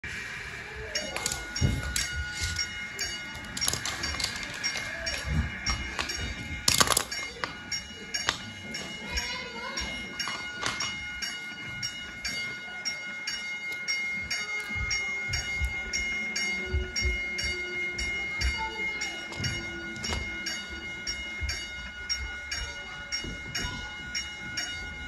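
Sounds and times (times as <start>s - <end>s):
toy crossing signal bell ringing: 0.7s - 25.0s.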